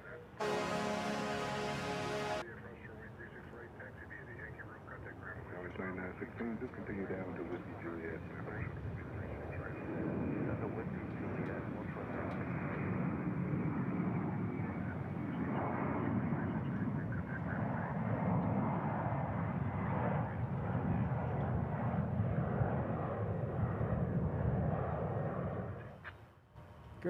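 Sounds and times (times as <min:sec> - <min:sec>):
jet engine rumble: 0:03.6 - 0:26.0.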